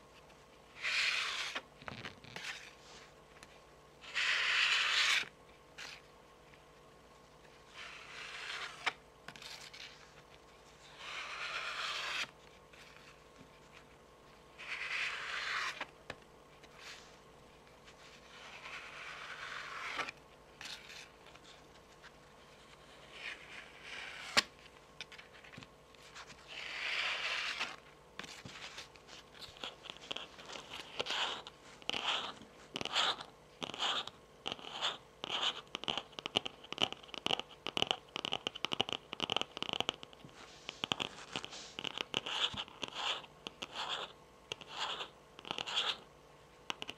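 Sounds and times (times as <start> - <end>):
fingernails scraping card: 0.7 - 2.8, 4.0 - 6.1, 7.6 - 13.9, 14.5 - 15.9, 18.1 - 24.5, 25.1 - 46.0.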